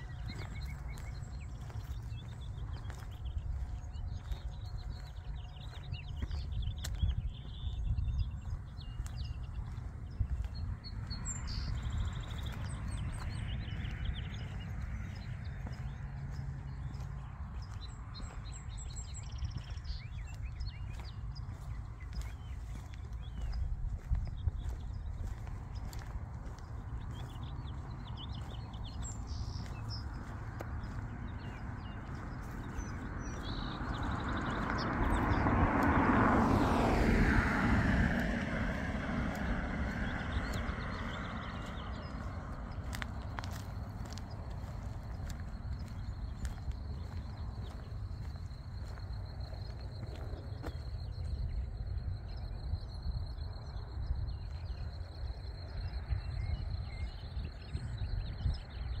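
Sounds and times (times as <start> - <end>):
vehicle passing on road: 0.0 - 59.0
wind rumbling on microphone: 0.0 - 59.0.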